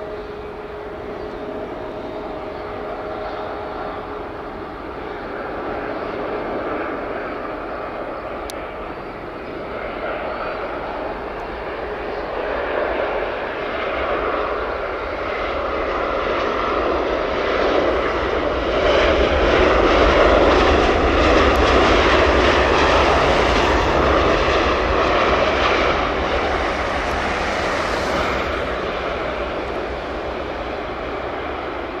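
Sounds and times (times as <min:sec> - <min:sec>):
jet engines on landing: 0:00.0 - 0:32.0.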